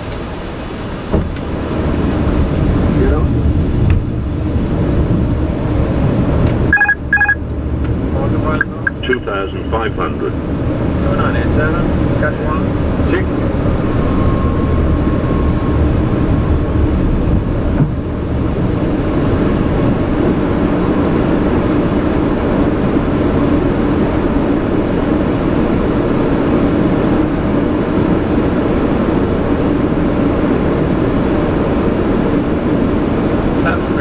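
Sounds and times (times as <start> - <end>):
aircraft engine noise: 0.0 - 34.0
airflow rushing in cockpit: 0.0 - 34.0.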